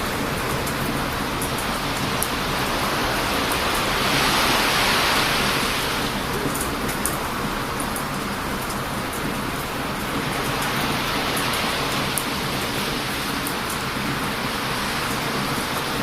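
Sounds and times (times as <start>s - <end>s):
campfire crackling: 0.0s - 16.0s
heavy ocean surf: 0.0s - 16.0s.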